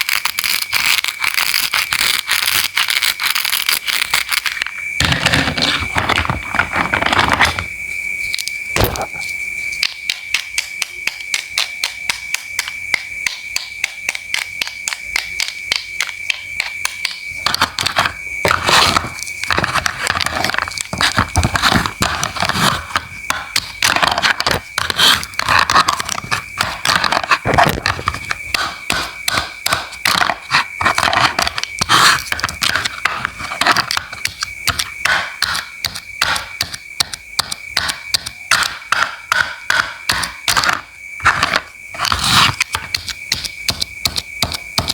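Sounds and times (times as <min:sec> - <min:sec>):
steady high-pitched tone: 0:04.6 - 0:44.9.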